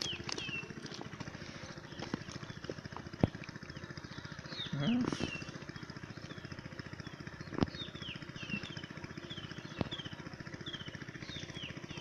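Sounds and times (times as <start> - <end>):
bird chirping: 0.0 - 3.0, 3.6 - 12.0
low pulsing hum: 0.0 - 12.0.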